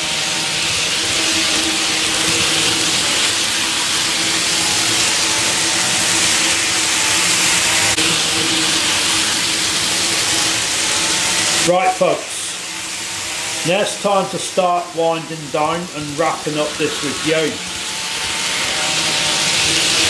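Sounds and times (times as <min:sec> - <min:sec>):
model trains running on track: 0:00.0 - 0:20.0.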